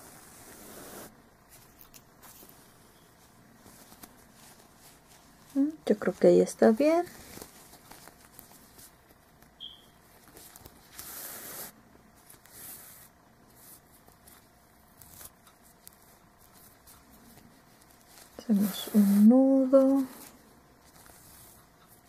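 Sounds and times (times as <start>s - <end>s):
yarn and fabric rustling: 0.0s - 22.0s.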